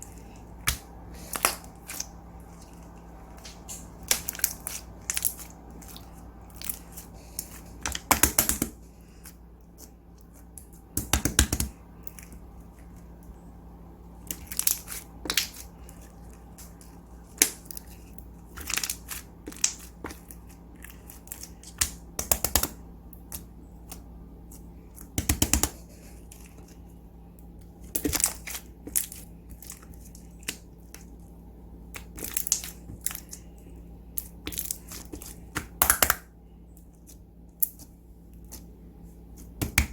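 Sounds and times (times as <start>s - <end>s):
slime being squished: 0.0s - 13.2s, 14.2s - 26.8s, 27.8s - 31.3s, 31.9s - 39.9s
faint steady hum: 0.0s - 39.9s.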